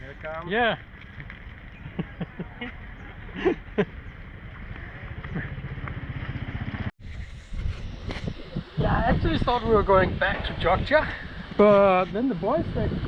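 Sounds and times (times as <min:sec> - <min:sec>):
breezy outdoor background: 0:00.0 - 0:13.0.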